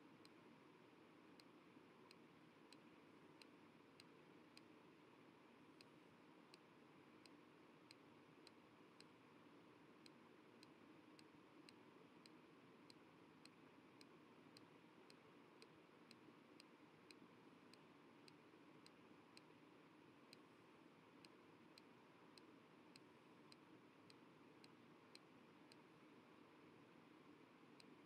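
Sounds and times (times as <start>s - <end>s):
soft even ticking: 1.4s - 5.0s, 5.7s - 28.0s.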